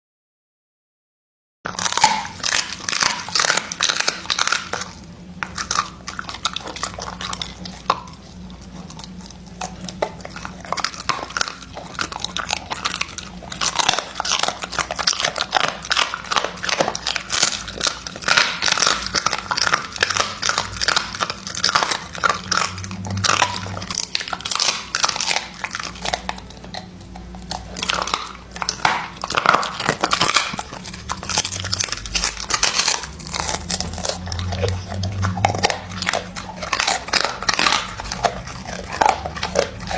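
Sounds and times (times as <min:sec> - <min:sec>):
crunching and chewing: 0:01.7 - 0:39.9.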